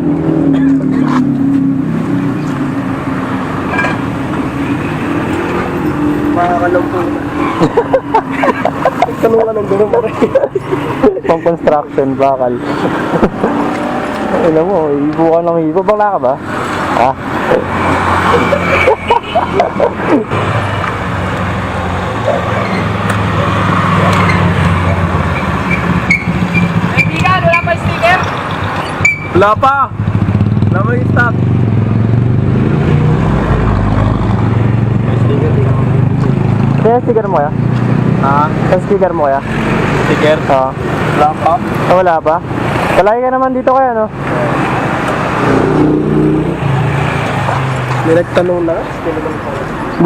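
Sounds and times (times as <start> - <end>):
road traffic noise: 0.0 - 50.0
street noise: 0.0 - 50.0
vehicle engine humming: 0.0 - 50.0.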